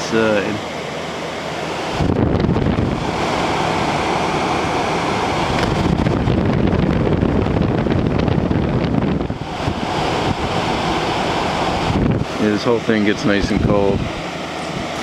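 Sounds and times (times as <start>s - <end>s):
air conditioner fan wind rumble: 0.0s - 15.0s.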